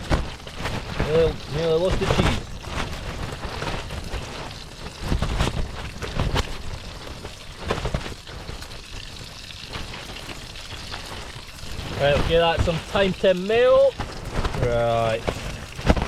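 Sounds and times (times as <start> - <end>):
burgers sizzling in frying pan: 0.0 - 16.0
rain hissing: 0.0 - 16.0.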